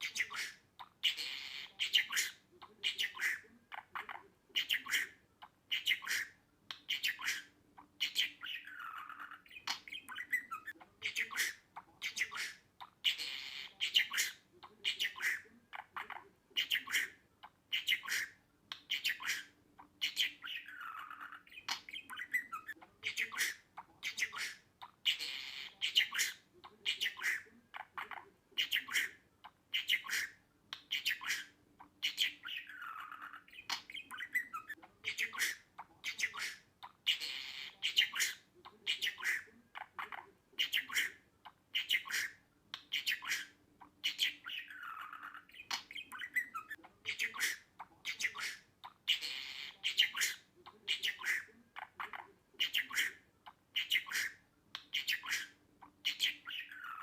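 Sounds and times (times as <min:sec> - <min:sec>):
budgerigar chattering: 0:00.0 - 0:57.0.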